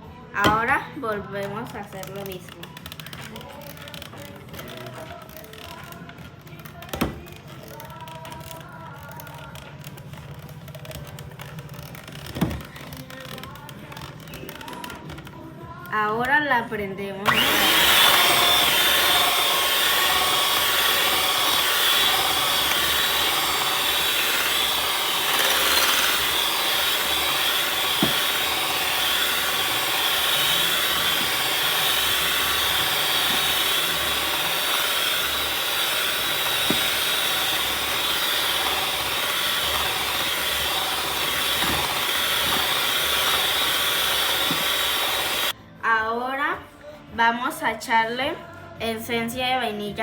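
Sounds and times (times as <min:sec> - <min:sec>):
electric mixer beating batter: 0:02.0 - 0:15.0, 0:17.2 - 0:45.6.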